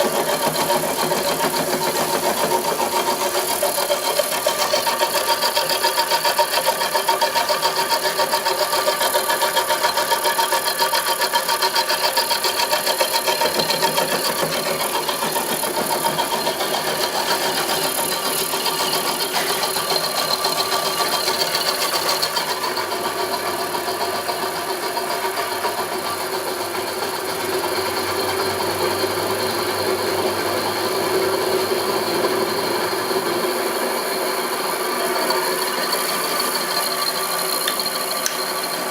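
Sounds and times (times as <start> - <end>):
milling machine whirring: 0.0 - 38.9.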